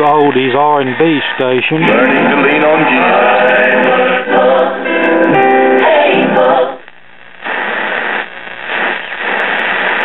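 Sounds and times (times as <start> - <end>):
radio playing music with singing: 0.0 - 10.0
radio static hiss: 0.0 - 10.0.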